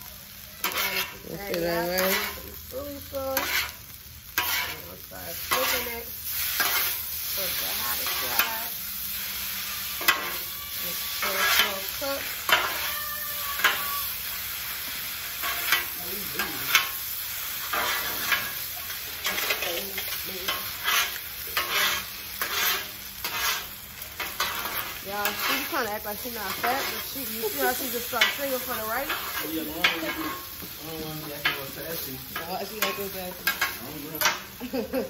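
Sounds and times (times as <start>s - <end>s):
food sizzling on griddle: 0.0s - 35.0s
utensil tapping and scraping griddle: 0.6s - 8.7s, 9.6s - 14.0s, 14.8s - 34.9s.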